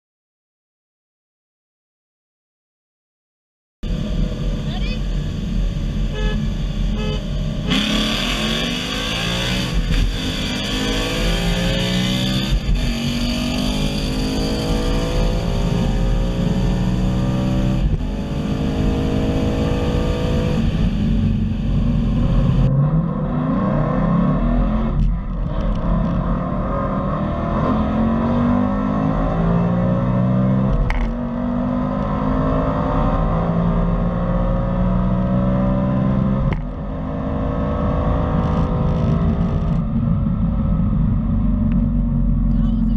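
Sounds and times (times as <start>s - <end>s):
car engine accelerating hard: 3.9s - 42.9s.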